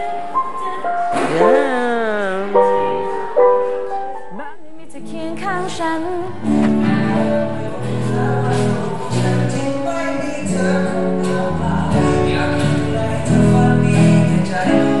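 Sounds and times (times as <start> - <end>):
electric guitar chords: 1.1 - 5.4, 6.2 - 15.0.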